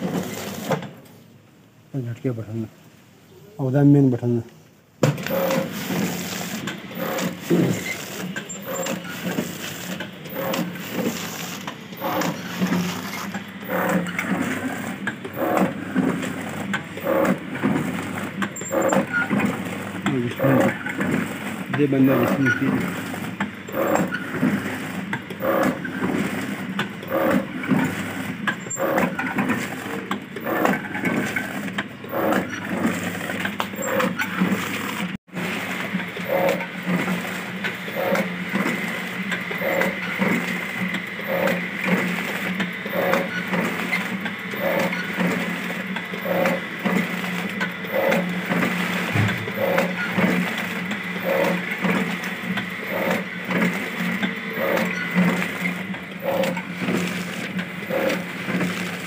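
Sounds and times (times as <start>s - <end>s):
machine motor hum: 5.0s - 59.0s.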